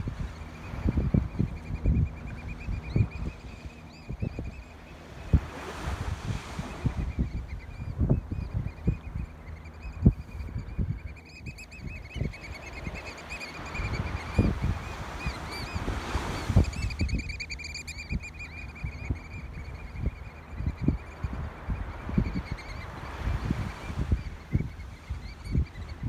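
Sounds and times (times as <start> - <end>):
wind buffeting microphone: 0.0 - 26.0
birds piping high notes: 0.2 - 5.6, 6.9 - 26.0.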